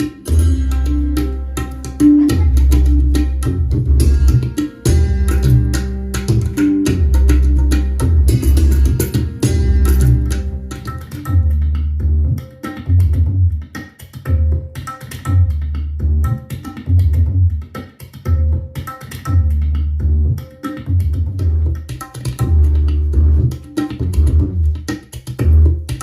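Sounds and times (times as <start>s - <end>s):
deep bass beat: 0.0s - 13.7s, 15.3s - 17.6s, 19.3s - 21.8s, 22.4s - 26.0s
music through portable speaker: 0.0s - 26.0s.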